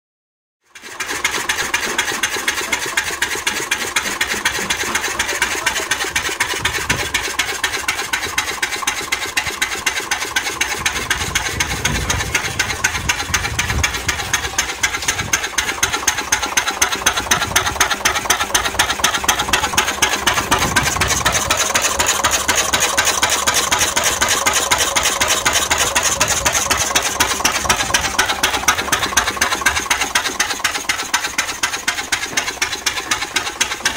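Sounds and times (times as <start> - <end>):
diesel engine running: 0.7 - 33.9.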